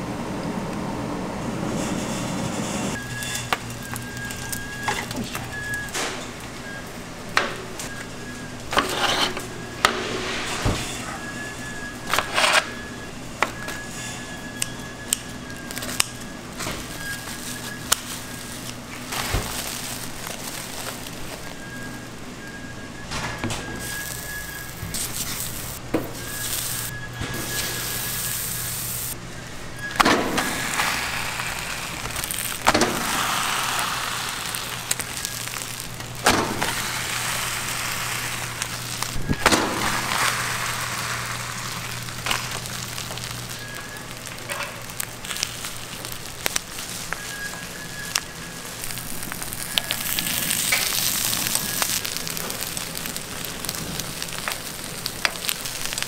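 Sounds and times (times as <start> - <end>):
wood fire crackling and hissing: 0.0 - 56.0.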